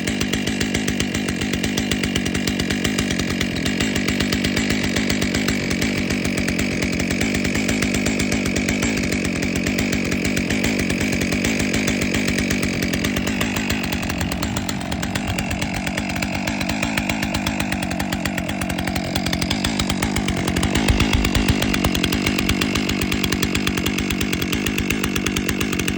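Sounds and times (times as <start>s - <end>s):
chainsaw engine running: 0.0s - 25.9s.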